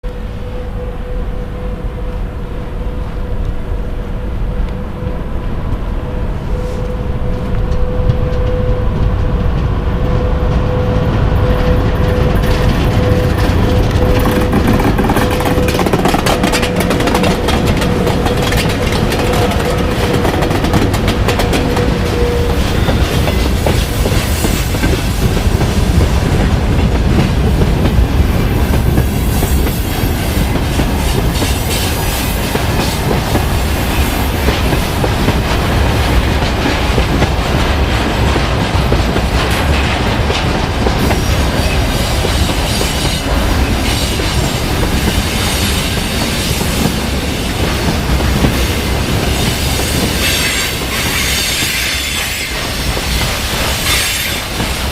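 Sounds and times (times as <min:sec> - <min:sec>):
wheels clacking over rail joints: 0:07.5 - 0:54.9.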